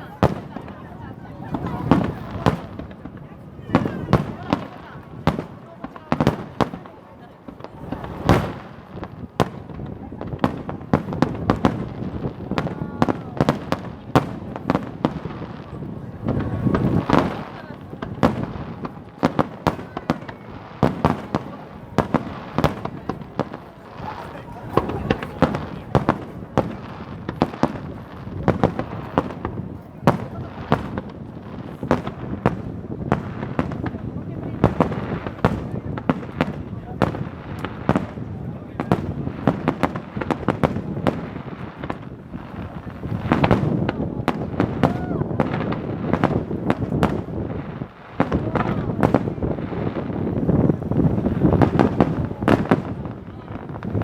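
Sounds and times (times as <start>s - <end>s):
fireworks bursting: 0.0s - 54.0s
rumble of fireworks display: 0.0s - 54.0s.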